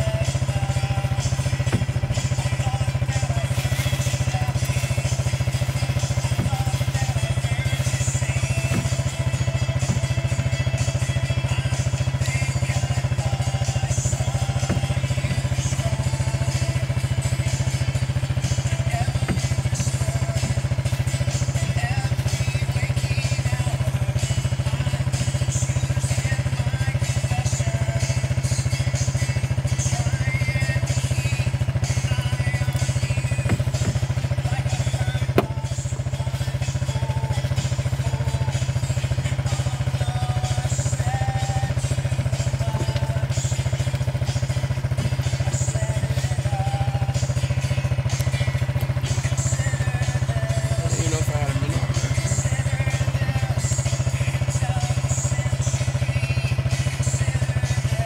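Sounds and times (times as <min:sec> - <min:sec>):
small engine droning: 0:00.0 - 0:58.0.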